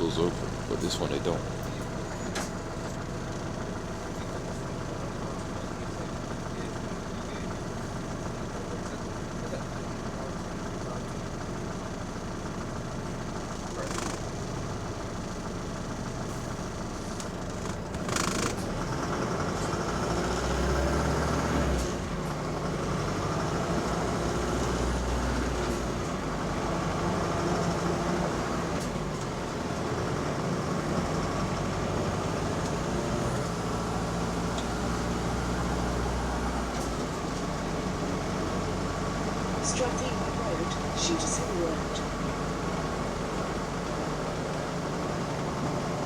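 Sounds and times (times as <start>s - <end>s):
bus engine drone: 0.0s - 46.0s.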